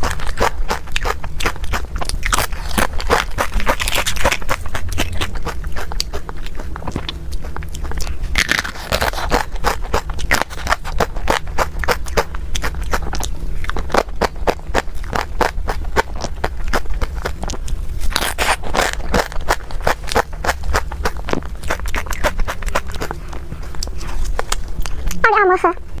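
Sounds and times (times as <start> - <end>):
chewing with mouth clicks: 0.0 - 25.2
steady low hum: 0.0 - 26.0.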